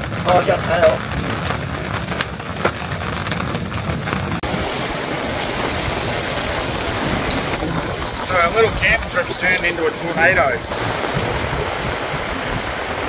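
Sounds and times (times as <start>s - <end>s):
hailstones hitting: 0.0s - 13.0s
heavy rain downpour: 0.0s - 13.0s.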